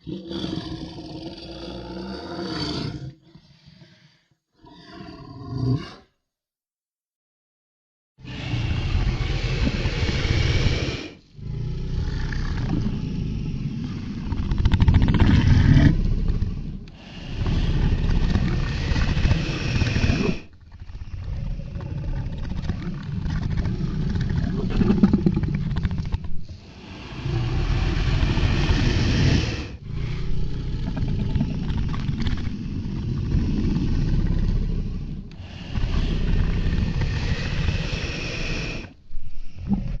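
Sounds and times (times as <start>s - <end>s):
crocodile deep vocal sounds: 0.0s - 6.2s, 8.2s - 40.0s.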